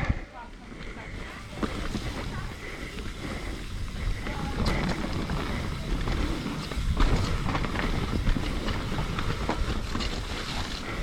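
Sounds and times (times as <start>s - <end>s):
bike rattling and clicking: 0.0s - 11.0s
bike tyres rumbling on dirt: 0.0s - 11.0s.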